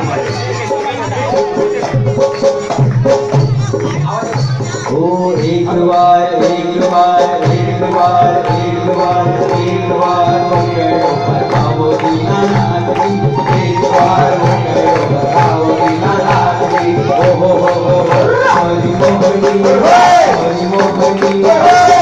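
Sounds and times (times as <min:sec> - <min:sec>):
rhythmic percussion beat: 0:00.0 - 0:22.0
devotional song sung into microphone: 0:03.4 - 0:22.0.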